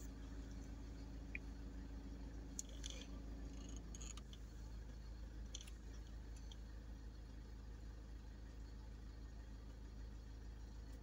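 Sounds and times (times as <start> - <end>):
vehicle idling hum: 0.0 - 11.0.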